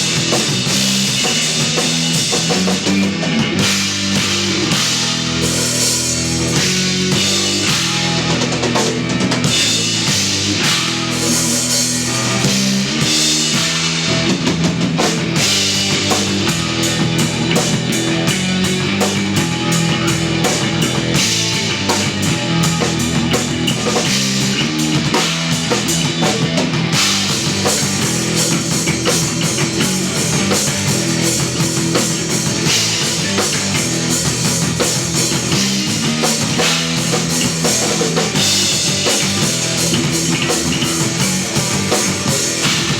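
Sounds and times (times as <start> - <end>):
drum kit with cymbals: 0.0 - 42.9
electric bass: 0.0 - 42.9
electric guitar: 0.0 - 42.9.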